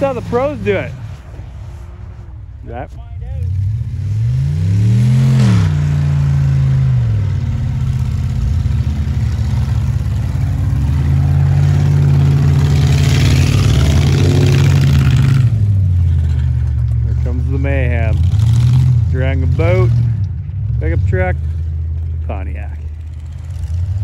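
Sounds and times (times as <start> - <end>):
car engine revving: 0.0 - 24.0
engines running under load: 0.0 - 24.0.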